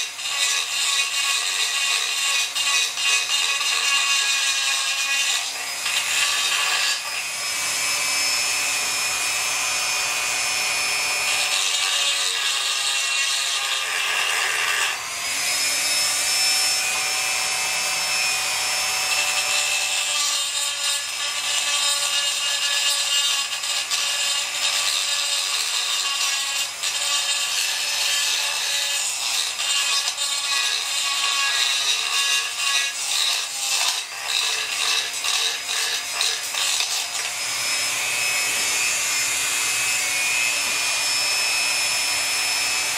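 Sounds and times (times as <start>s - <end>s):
rotary tool grinding metal: 0.0s - 42.9s.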